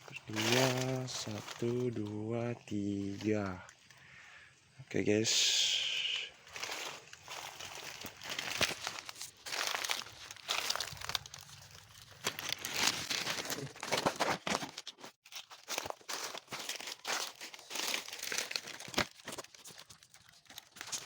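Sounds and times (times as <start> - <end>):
stalks and leaves rustling: 0.0 - 21.0.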